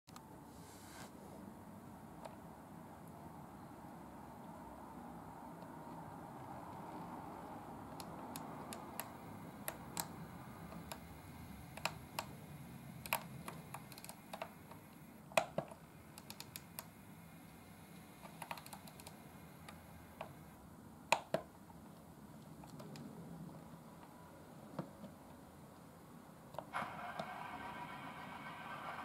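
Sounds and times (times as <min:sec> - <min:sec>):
faint low hum: 0:00.1 - 0:29.0.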